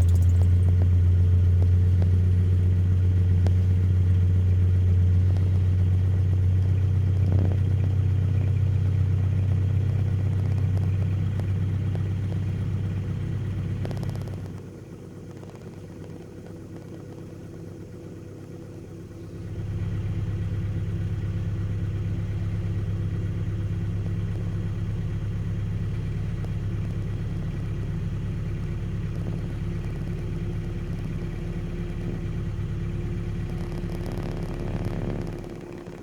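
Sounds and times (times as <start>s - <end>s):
vehicle engine idling: 0.0s - 36.0s.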